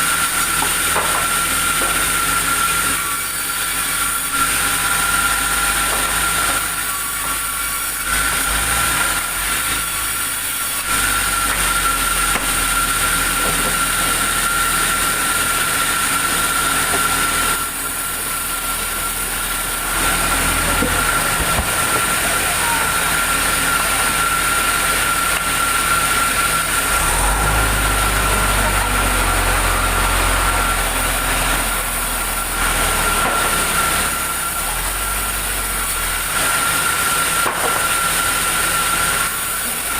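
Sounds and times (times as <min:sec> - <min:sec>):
sawmill machinery whine: 0:00.0 - 0:39.9.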